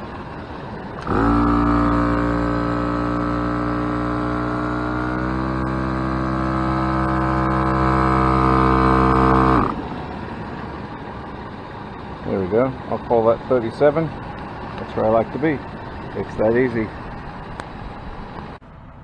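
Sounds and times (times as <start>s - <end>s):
air compressor motor drone: 0.0s - 19.0s.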